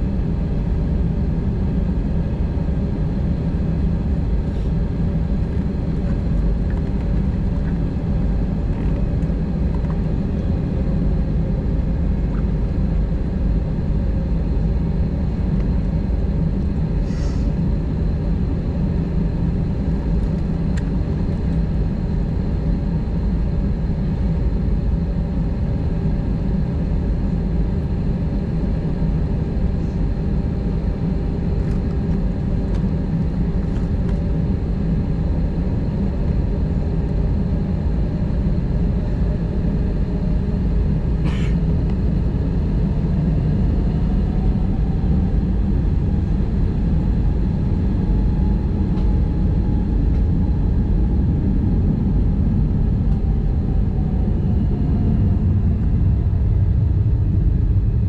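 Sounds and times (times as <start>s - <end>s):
jet engines idling low rumble: 0.0s - 58.0s
steady hum of tones: 0.0s - 58.0s.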